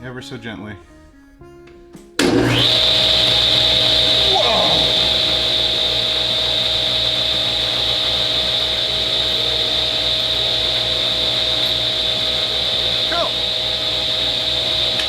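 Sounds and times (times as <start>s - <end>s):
table saw running: 2.2s - 15.0s.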